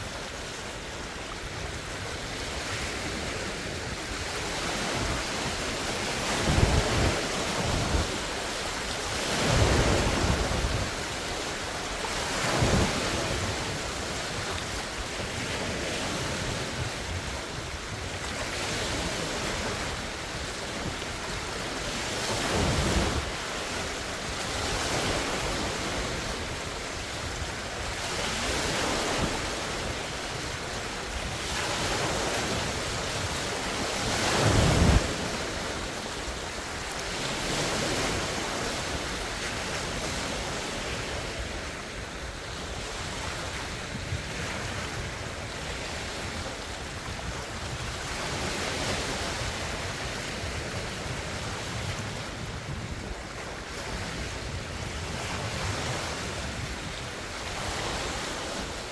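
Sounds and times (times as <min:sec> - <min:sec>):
lake waves breaking on shore: 0:00.0 - 0:58.9
wind buffeting microphone: 0:00.0 - 0:58.9.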